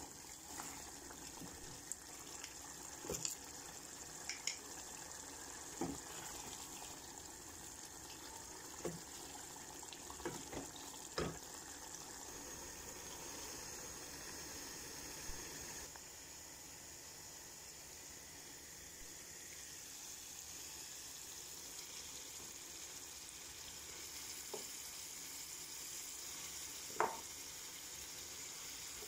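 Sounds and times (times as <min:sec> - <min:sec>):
liquid simmering and sizzling: 0:00.0 - 0:29.0.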